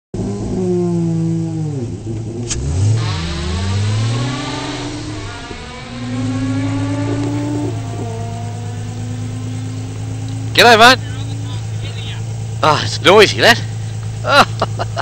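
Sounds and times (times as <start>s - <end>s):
rally car engine revving: 0.2s - 15.0s
engine idling: 1.9s - 15.0s.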